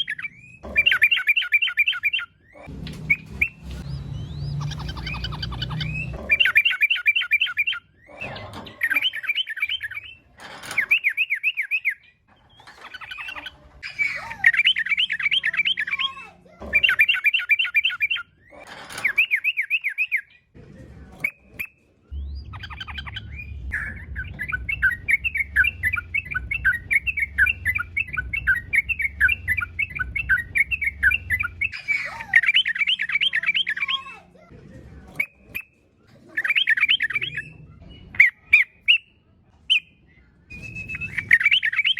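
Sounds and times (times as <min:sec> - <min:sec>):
bird chattering song: 0:00.0 - 0:20.5, 0:21.2 - 0:34.5, 0:35.2 - 0:41.9.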